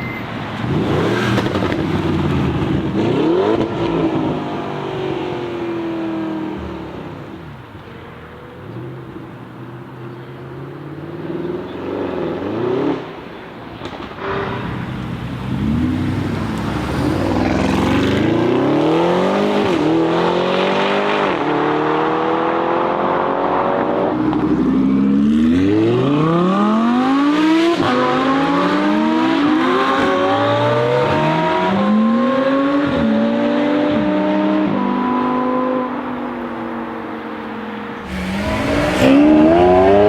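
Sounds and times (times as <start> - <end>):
car engine accelerating hard: 0.5 - 13.2, 14.6 - 36.4, 38.0 - 40.0.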